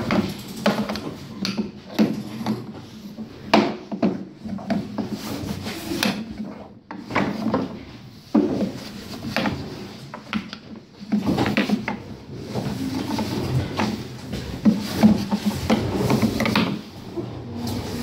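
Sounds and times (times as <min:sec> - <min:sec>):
wooden knocks and rubbing: 0:00.0 - 0:18.0.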